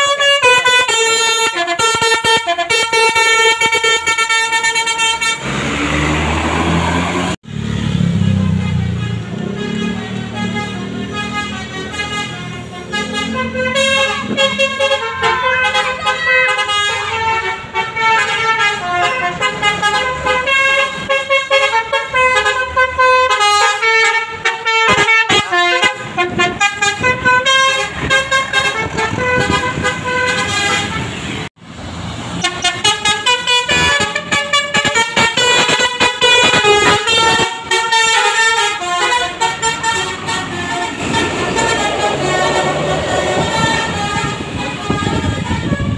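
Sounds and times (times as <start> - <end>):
musical air horn melody: 0.0 - 5.8, 8.5 - 31.5, 32.4 - 45.9.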